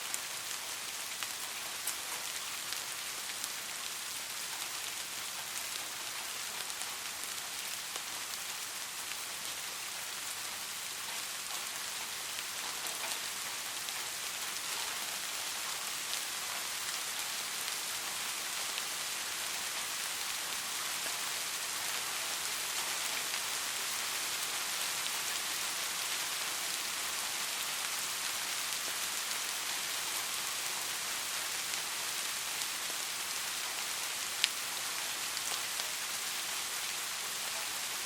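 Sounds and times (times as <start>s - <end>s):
light rain falling: 0.0s - 38.0s.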